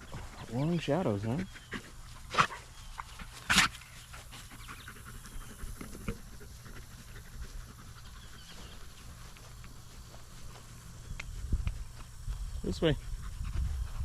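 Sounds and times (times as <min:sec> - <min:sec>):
dog panting: 0:00.0 - 0:11.1, 0:13.0 - 0:14.0.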